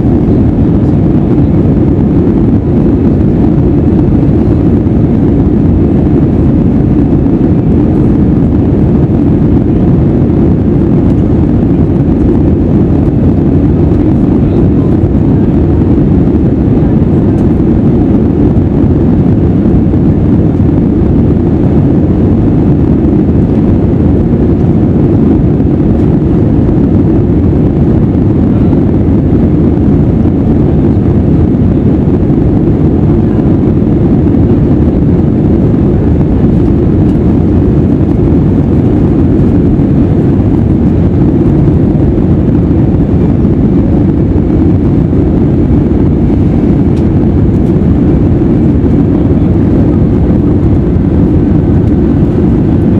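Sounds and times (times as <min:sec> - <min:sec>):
jet engine rumble in cabin: 0:00.0 - 0:52.9.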